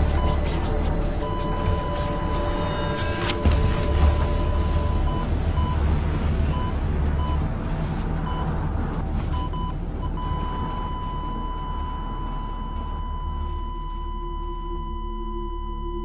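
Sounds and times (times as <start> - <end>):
patient monitor beeping: 0.0 - 7.5, 8.2 - 16.0
moving ambulance rumble: 0.0 - 16.0.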